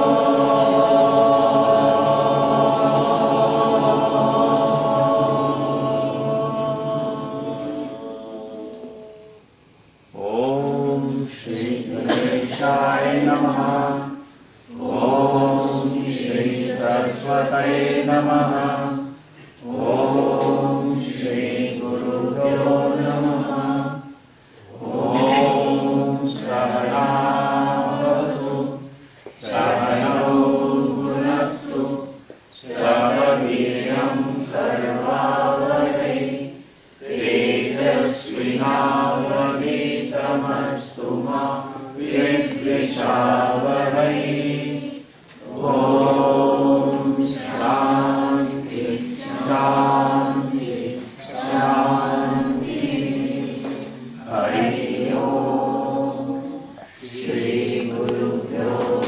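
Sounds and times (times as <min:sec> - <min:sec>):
voices chanting a mantra: 0:00.0 - 0:09.5, 0:10.1 - 0:59.0.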